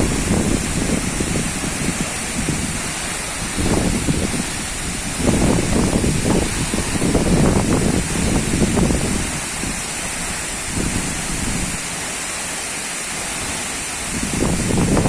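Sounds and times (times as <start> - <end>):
wind buffeting microphone: 0.0 - 12.0, 13.4 - 15.0
waterfall rushing: 0.0 - 15.0.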